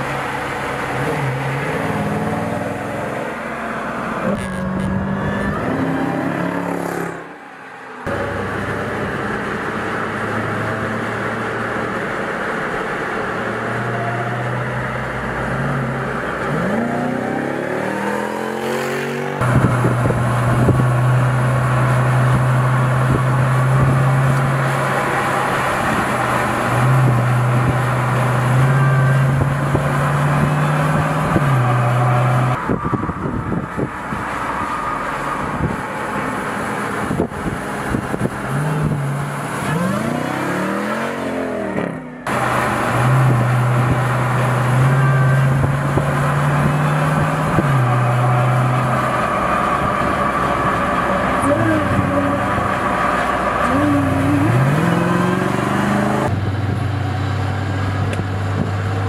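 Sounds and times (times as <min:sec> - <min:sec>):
car engine running hard: 0:00.0 - 0:59.0.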